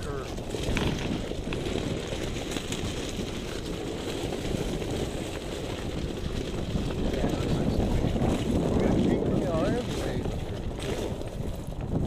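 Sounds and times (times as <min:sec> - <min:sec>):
vehicle rolling over gravel: 0:00.0 - 0:12.0
wind buffeting microphone: 0:00.0 - 0:12.0.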